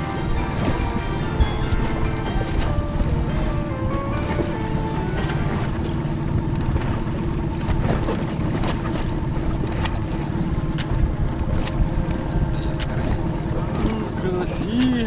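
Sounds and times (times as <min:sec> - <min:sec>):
outboard motor running: 0:00.0 - 0:15.0
waves slapping against hull: 0:00.0 - 0:15.0
wind: 0:00.0 - 0:15.0.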